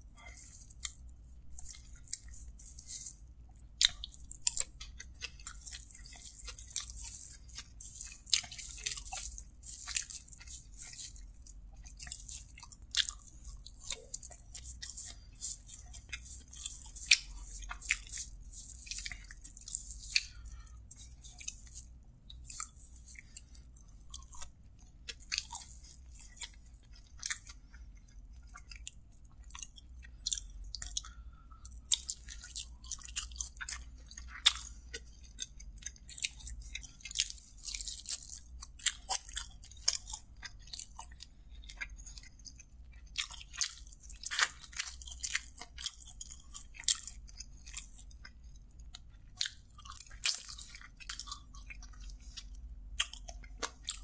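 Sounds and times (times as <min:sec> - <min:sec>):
close-miked chewing: 0:00.0 - 0:54.0.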